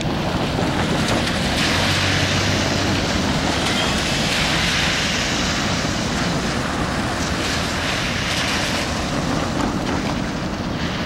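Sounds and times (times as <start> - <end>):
steady low rumble: 0.0 - 11.0
tyres hissing on wet road: 0.0 - 11.0.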